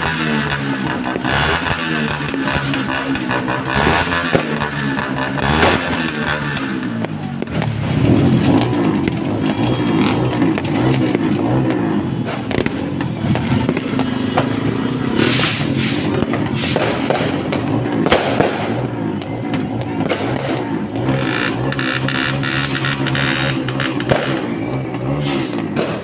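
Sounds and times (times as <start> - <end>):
continuous low rumble: 0.0 - 26.0
fireworks bangs and crackles: 0.0 - 26.0.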